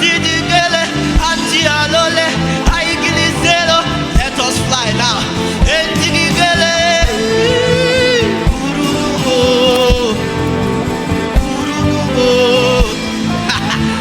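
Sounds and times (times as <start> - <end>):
band playing steady beat: 0.0 - 14.0
person singing gospel melody: 0.0 - 14.0.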